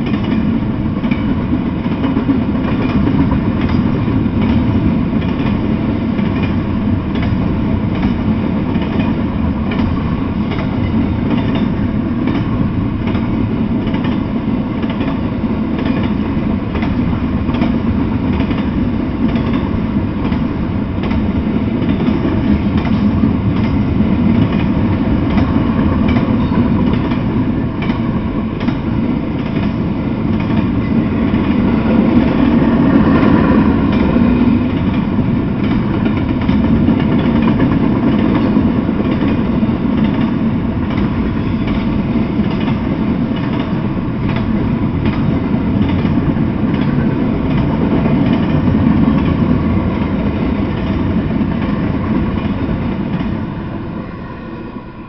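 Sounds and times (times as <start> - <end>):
wheel clicks at rail joints: 0.0 - 53.4
freight train rolling past: 0.0 - 55.0.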